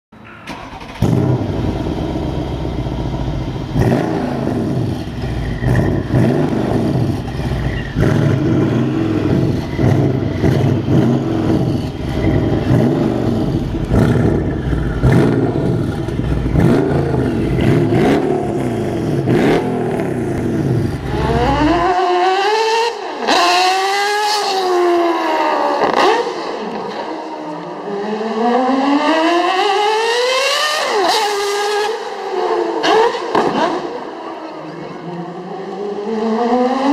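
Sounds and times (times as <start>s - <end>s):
high-pitched car engine accelerating: 0.4s - 36.9s
car engine revving deep rumble: 0.8s - 31.8s.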